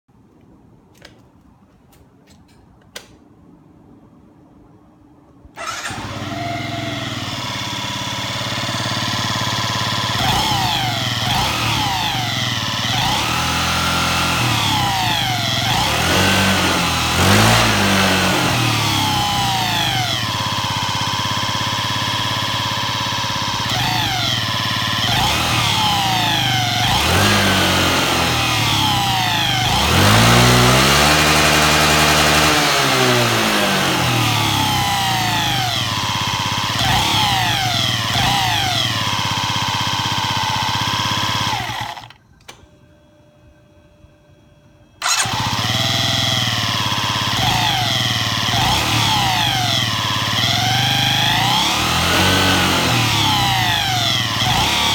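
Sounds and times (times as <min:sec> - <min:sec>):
scooter engine revving: 0:05.6 - 0:42.2, 0:45.0 - 0:54.9.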